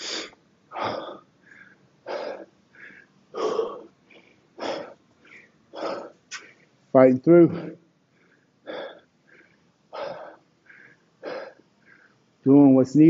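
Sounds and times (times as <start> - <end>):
man breathing hard: 0.0 - 6.8, 7.5 - 12.4.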